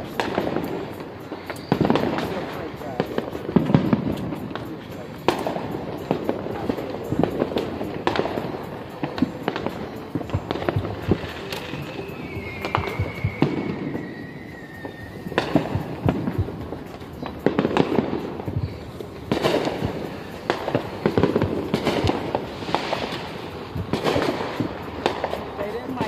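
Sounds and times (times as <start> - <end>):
falling firework whistle: 0.0 - 26.0
fireworks popping and banging: 0.0 - 26.0.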